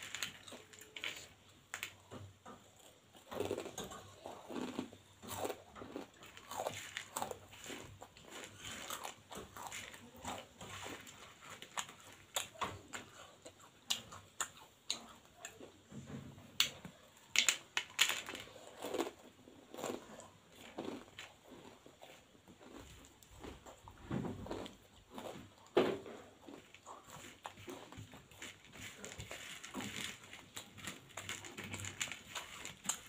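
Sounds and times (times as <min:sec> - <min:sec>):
crunchy snack chewing: 0:02.7 - 0:15.6, 0:17.4 - 0:33.0.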